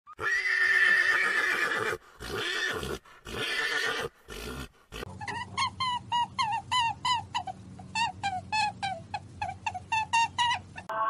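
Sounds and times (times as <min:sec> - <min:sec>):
animal calling: 0:00.2 - 0:10.9.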